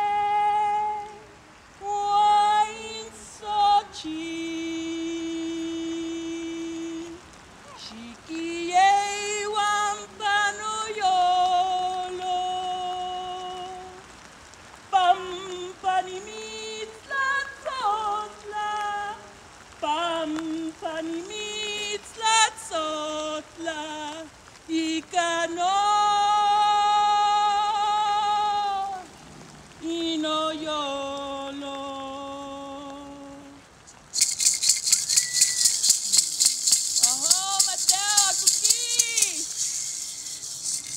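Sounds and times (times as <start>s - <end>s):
woman singing unaccompanied: 0.0s - 29.1s, 29.8s - 40.9s.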